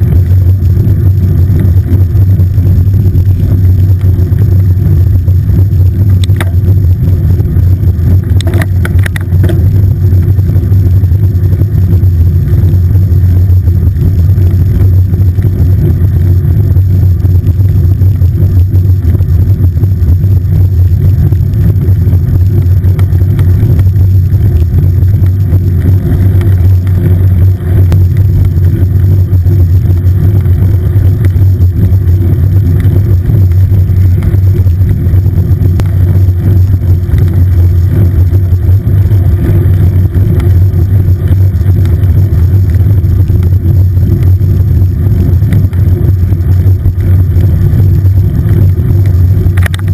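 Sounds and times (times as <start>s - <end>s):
wind and road rumble: 0.0s - 49.9s.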